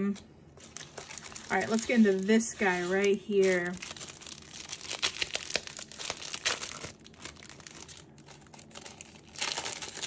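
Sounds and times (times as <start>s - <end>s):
plastic packaging crinkling: 0.6s - 10.0s.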